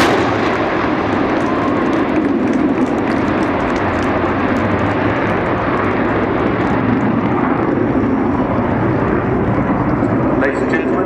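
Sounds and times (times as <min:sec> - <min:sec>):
afterburner crackle: 0:00.0 - 0:11.0
jet engines roaring: 0:00.0 - 0:11.0.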